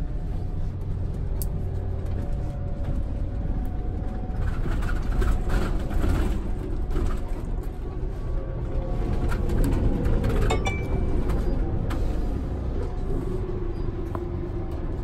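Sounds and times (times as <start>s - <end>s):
bus rumble from inside: 0.0s - 15.0s.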